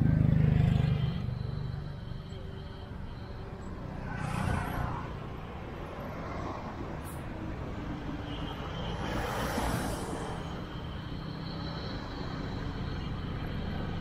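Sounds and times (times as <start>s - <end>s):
low rumble of traffic: 0.0s - 14.0s
vehicles passing close by: 0.0s - 14.0s.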